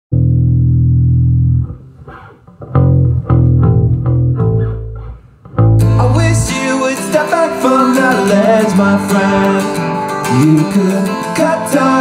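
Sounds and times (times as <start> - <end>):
electric bass guitar notes: 0.1 - 12.0.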